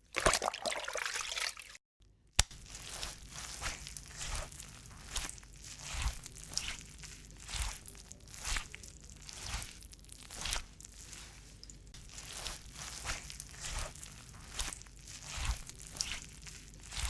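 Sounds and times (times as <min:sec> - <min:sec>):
mop swishing across floor: 0:02.6 - 0:17.0.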